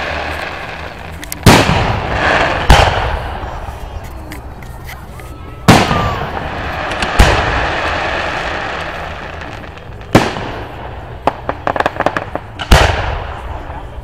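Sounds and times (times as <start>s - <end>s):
fireworks bangs with hiss: 0.0s - 14.0s
small fireworks pops: 0.0s - 14.0s.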